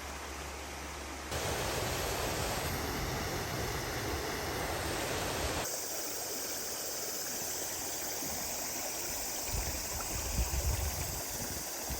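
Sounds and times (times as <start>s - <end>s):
stream flowing: 0.0s - 11.9s.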